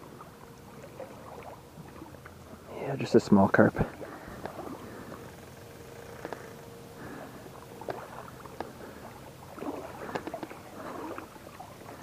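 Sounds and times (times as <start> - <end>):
shallow rocky river: 0.0 - 12.0.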